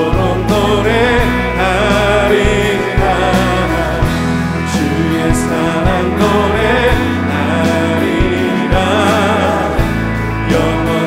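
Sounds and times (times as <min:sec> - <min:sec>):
people singing: 0:00.0 - 0:11.0
worship band playing: 0:00.0 - 0:11.0.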